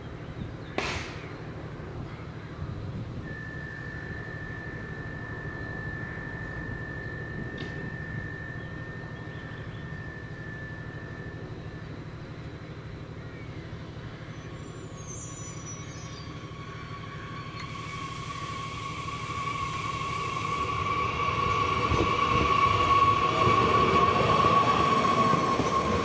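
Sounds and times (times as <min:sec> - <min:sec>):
high steady whine: 0:00.0 - 0:26.0
lower train whine: 0:00.0 - 0:26.0
train low rumble: 0:00.0 - 0:26.0.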